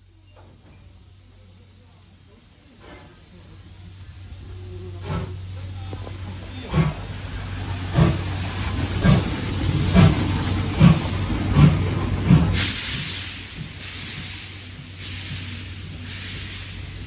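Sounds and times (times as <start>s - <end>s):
steam hissing: 0.1s - 17.0s
steam locomotive chuffing: 0.1s - 17.0s.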